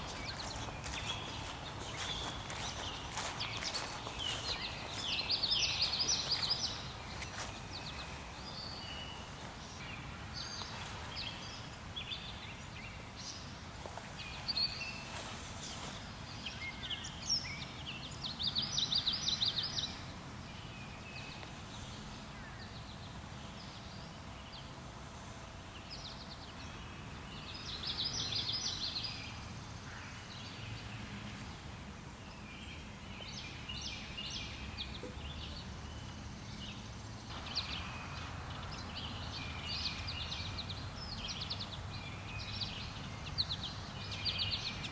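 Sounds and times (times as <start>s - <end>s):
songbirds trilling and chirping: 0.0s - 44.9s.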